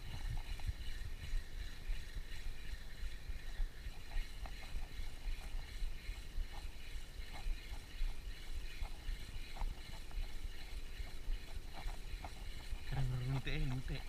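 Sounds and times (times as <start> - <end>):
fishing reel whirring: 0.0 - 14.0.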